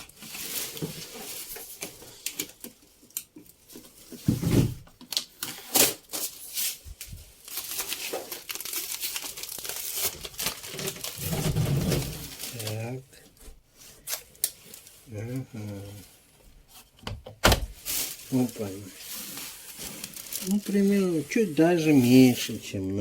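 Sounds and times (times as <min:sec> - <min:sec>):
packaging rustling and crinkling: 0:00.0 - 0:22.8.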